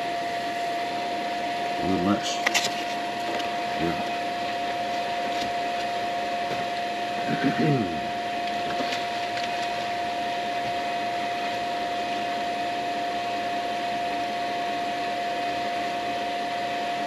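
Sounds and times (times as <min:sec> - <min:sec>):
shop machine whirring hum: 0:00.0 - 0:17.0.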